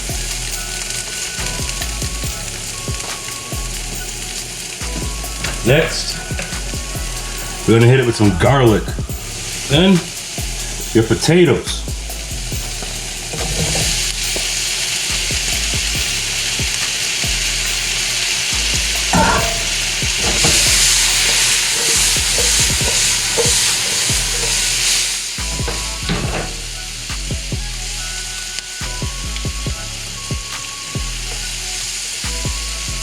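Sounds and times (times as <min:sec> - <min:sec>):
vegetables sizzling in oil: 0:00.0 - 0:08.4, 0:09.1 - 0:33.0
utensil stirring and scraping: 0:00.0 - 0:27.0.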